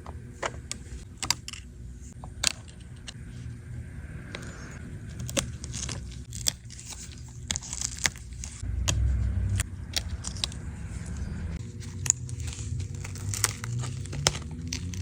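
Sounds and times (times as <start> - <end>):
tools clicking and crunching: 0.4 - 3.2, 5.1 - 15.0
dull low rumble: 1.9 - 15.0.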